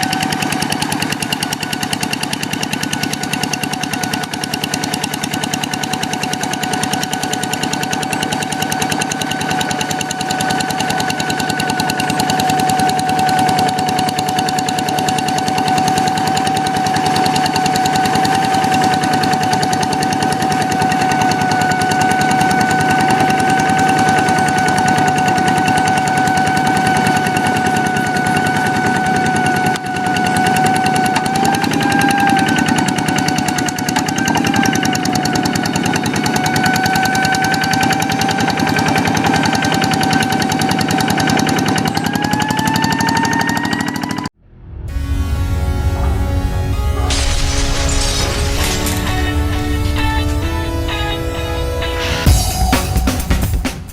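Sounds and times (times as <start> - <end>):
high engine whine: 0.0 - 53.9.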